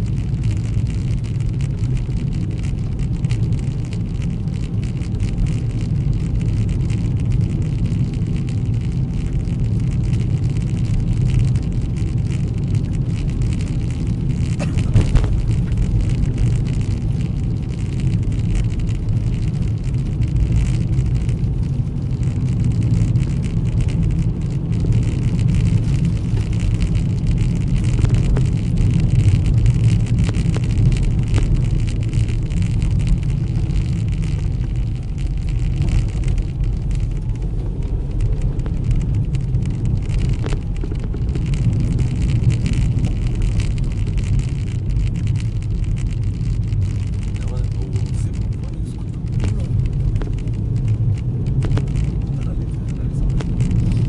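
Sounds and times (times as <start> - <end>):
car engine and tyres rumble: 0.0 - 54.0
wet road spatters: 0.2 - 54.0.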